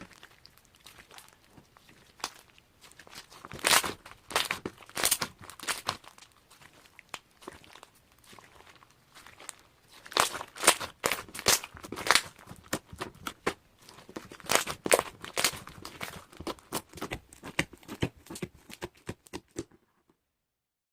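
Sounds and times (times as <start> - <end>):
crinkling and rustling: 0.0 - 20.2.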